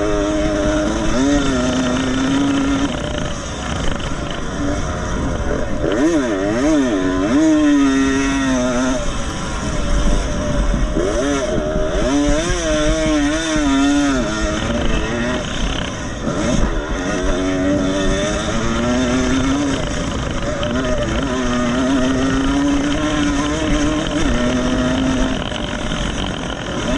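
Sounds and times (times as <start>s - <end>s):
motocross engines revving: 0.0s - 26.9s.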